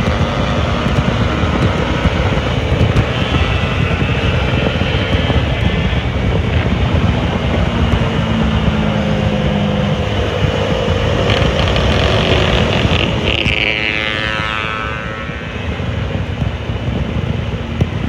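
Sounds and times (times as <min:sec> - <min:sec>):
motorcycle engine running: 0:00.0 - 0:18.0
wind rush: 0:00.0 - 0:18.0.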